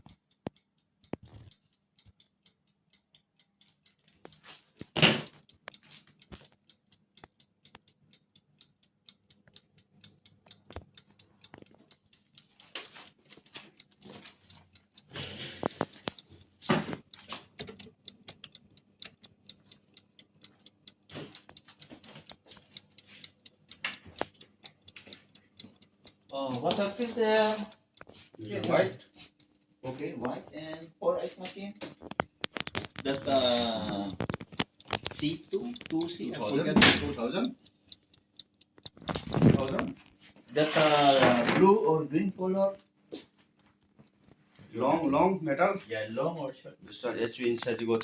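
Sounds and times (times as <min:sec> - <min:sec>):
mechanical timer ticking: 0:00.0 - 0:48.0.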